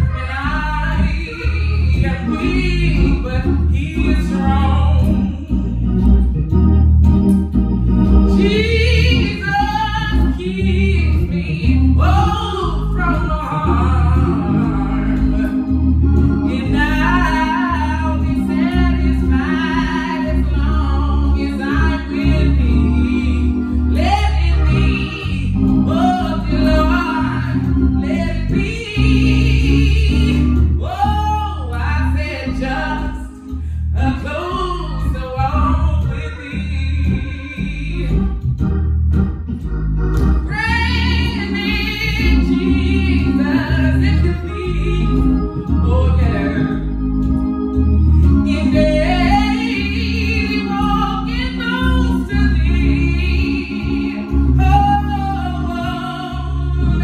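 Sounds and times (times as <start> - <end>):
person singing gospel hymn: 0.0 - 6.8, 7.9 - 38.4, 40.4 - 57.0
organ chords with bass: 0.0 - 57.0.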